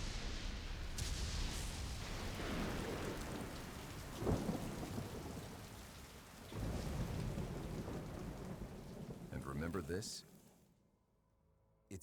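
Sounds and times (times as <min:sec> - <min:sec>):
steady rain: 0:00.0 - 0:10.6.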